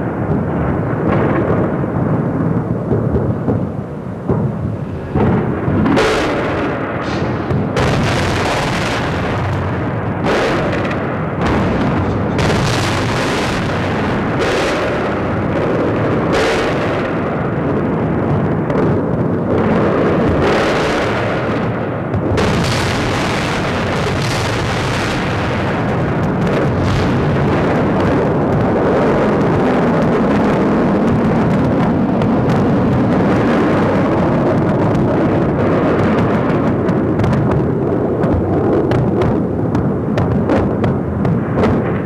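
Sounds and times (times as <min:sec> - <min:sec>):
bomb blasts: 0:00.0 - 0:42.0
heavy rumble: 0:00.0 - 0:42.0.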